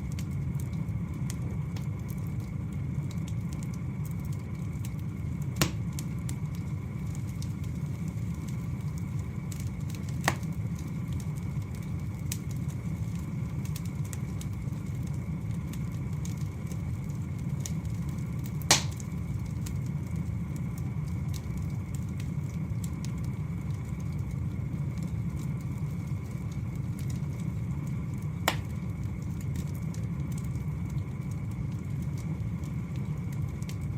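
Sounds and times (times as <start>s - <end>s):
fire crackles: 0.0s - 33.9s
sharp pops from fire: 0.0s - 33.9s
wood fire burning: 0.0s - 33.9s.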